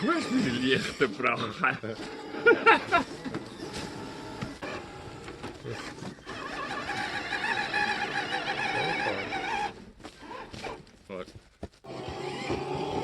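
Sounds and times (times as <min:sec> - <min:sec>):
electric motor and gearbox whining: 0:00.0 - 0:11.0, 0:11.8 - 0:13.0.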